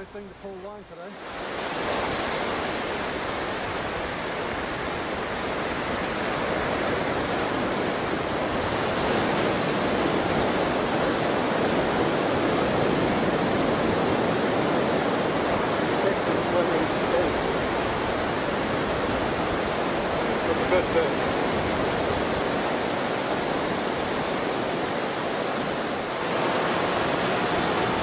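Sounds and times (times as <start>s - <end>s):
surf breaking on a beach: 0.0s - 28.0s.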